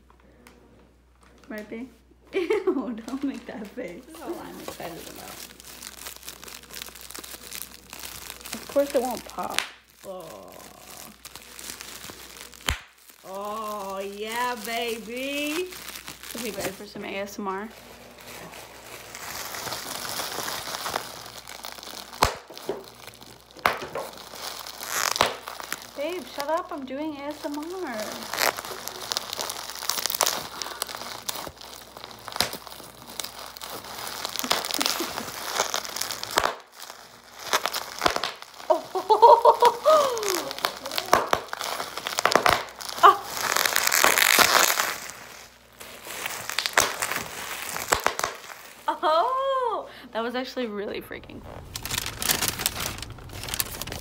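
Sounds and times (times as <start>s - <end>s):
bubble wrap crinkling: 0.0s - 54.0s
bubble wrap snapping: 2.4s - 49.7s, 51.1s - 54.0s.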